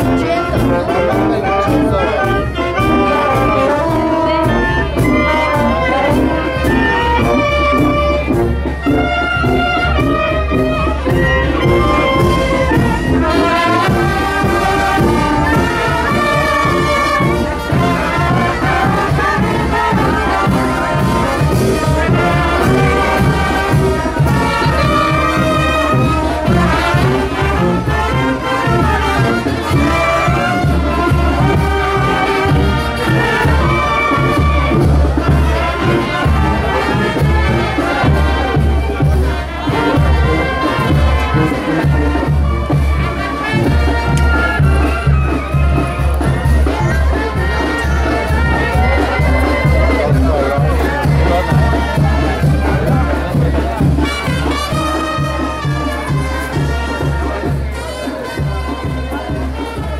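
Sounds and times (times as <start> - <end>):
brass band playing dance tune: 0.0 - 59.9
steady drum beat: 0.0 - 59.9.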